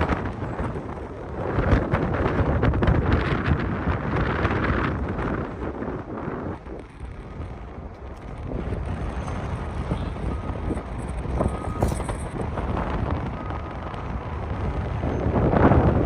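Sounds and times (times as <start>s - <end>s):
rumble of vehicle traffic: 0.0s - 16.0s
wind buffeting microphone: 0.0s - 16.0s.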